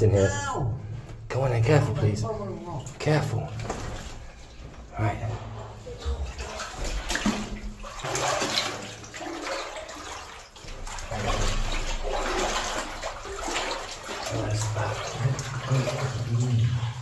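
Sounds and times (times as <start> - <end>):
boots wading through water: 2.4 - 17.0.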